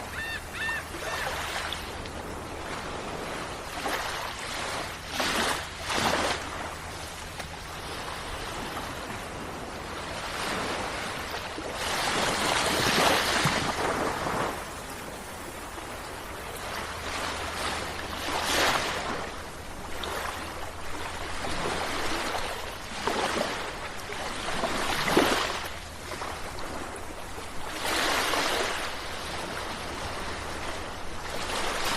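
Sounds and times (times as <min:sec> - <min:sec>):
sea waves breaking on shore: 0:00.0 - 0:31.9.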